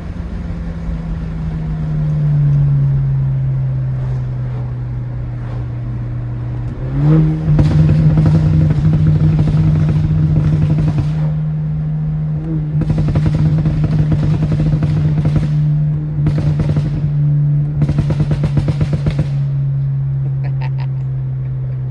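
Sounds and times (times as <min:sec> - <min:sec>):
car exhaust accelerating hard: 0:00.0 - 0:21.9.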